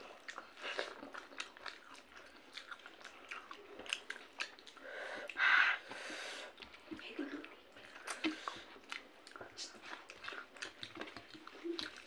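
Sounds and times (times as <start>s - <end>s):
wet chewing with mouth clicks: 0.0s - 12.0s.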